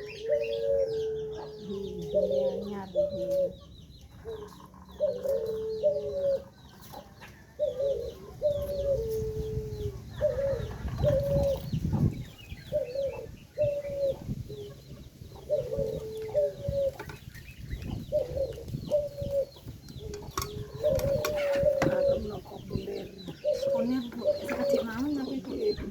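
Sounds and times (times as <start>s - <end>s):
chickens calling: 0.0s - 25.9s
small birds chirping: 0.0s - 25.9s.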